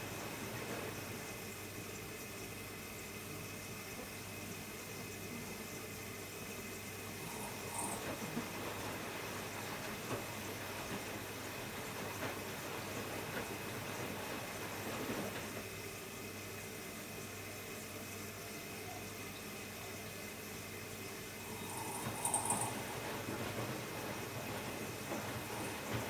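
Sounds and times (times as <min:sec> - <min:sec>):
washing machine hum: 0:00.0 - 0:26.0
water rushing into washing machine: 0:00.0 - 0:26.0.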